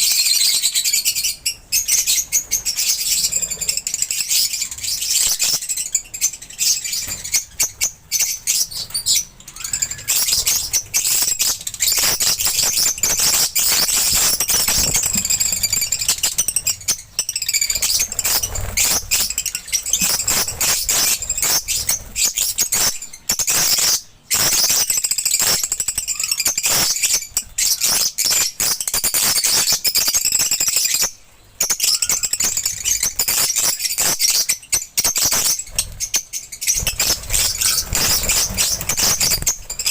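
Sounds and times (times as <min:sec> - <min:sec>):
lovebirds chirping and screeching: 0:00.0 - 0:39.9.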